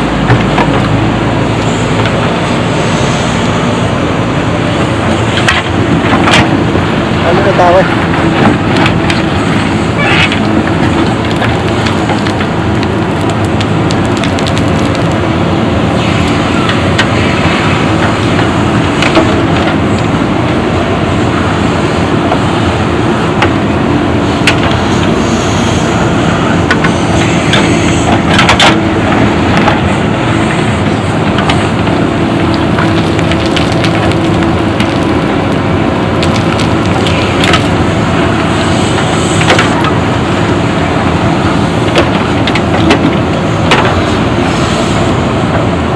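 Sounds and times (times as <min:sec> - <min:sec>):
gravel knocks and rattles: 0:00.0 - 0:03.0, 0:04.7 - 0:45.9
diesel engine running under load: 0:00.0 - 0:45.9.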